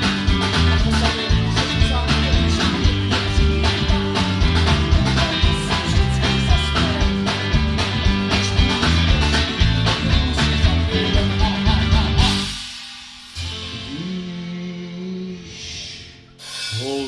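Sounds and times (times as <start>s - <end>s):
drum beat: 0.0s - 14.5s
rock band playing live: 0.0s - 15.3s.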